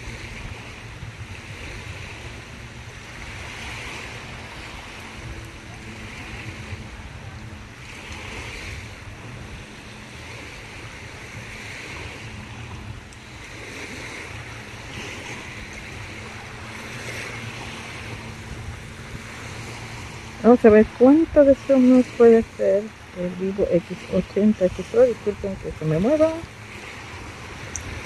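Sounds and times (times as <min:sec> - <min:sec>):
small waves breaking on beach: 0:00.0 - 0:28.0
wind rumbling on microphone: 0:00.0 - 0:28.0.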